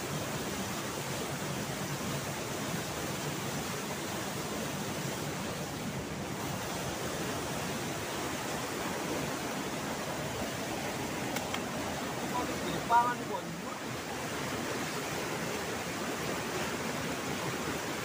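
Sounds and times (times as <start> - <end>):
river water rushing at waterfall: 0.0 - 18.0.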